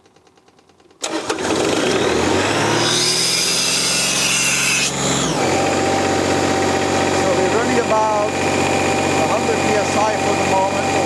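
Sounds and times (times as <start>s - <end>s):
diesel engine starting and running: 0.0s - 4.2s, 4.9s - 11.0s.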